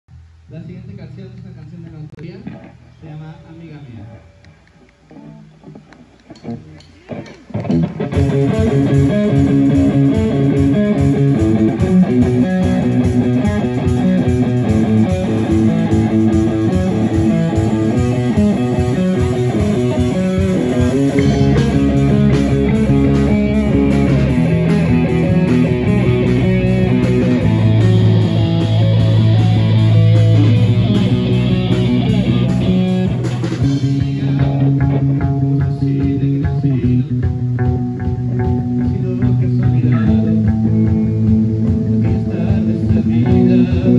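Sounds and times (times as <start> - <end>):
live band playing rock music: 4.2 - 43.9.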